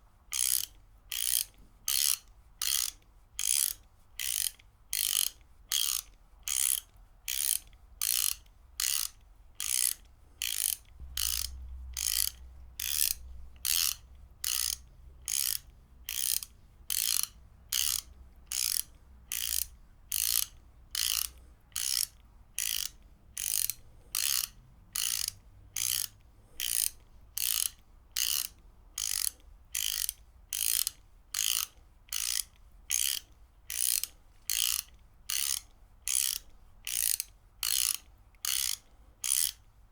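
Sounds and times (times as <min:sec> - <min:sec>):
ratchet wrench clicking: 0:00.3 - 0:39.6.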